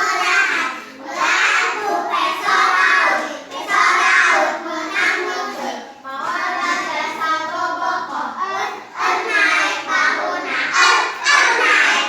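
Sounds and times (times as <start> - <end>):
children singing a chant: 0.0 - 12.0.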